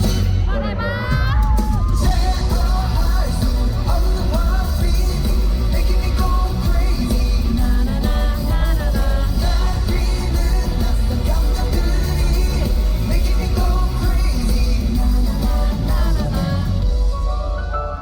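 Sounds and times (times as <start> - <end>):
man singing pop-rock song: 0.0 - 17.7
loud band track with heavy bass: 0.0 - 18.0.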